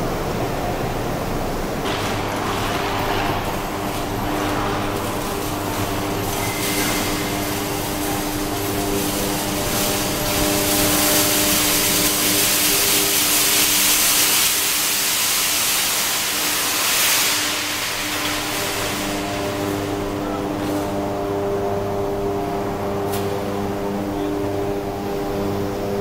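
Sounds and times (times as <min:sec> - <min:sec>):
steady electrical hum: 0:00.0 - 0:26.0
loud hissing rush: 0:02.2 - 0:26.0.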